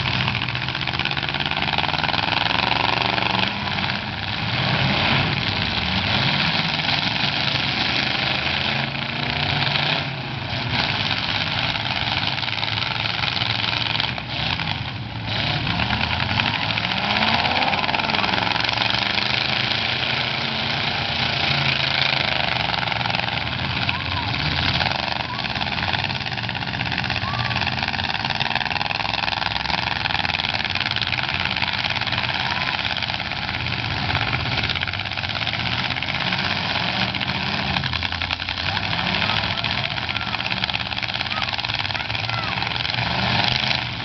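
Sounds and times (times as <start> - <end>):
car engines revving hard: 0.0 - 44.0.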